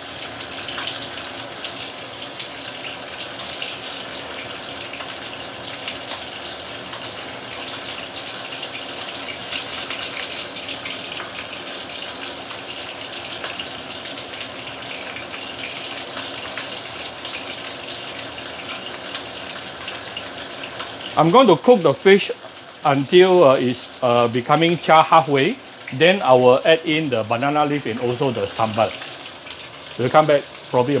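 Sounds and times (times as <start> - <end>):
fish sizzling in oil: 0.0 - 31.0.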